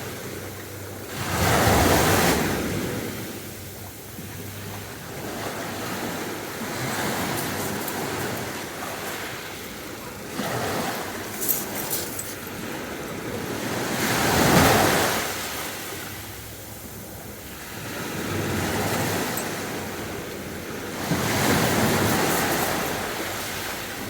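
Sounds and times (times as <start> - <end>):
surf hiss: 0.0 - 24.0
waves breaking on a beach: 0.0 - 24.0.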